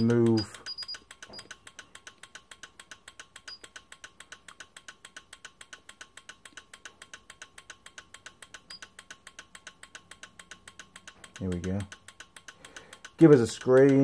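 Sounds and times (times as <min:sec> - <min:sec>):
rapid switch clicking: 0:00.0 - 0:14.0.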